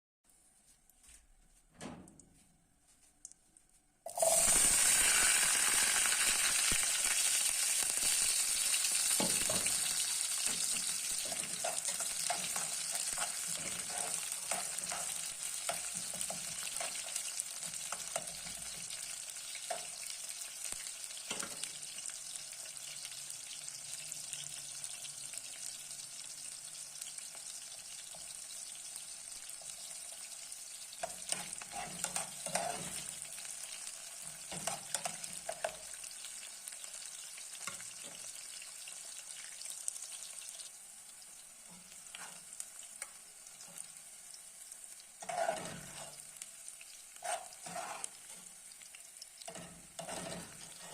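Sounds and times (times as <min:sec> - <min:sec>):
food sizzling in hot oil: 0:04.1 - 0:50.9.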